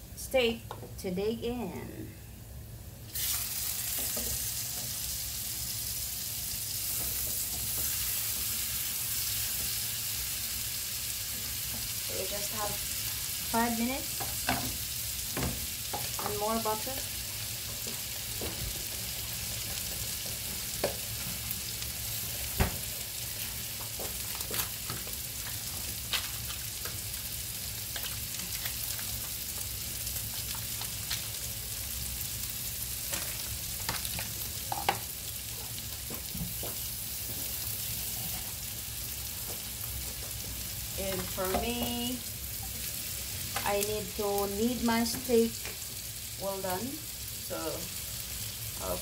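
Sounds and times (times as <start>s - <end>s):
steaks sizzling in a pan: 3.1s - 49.0s.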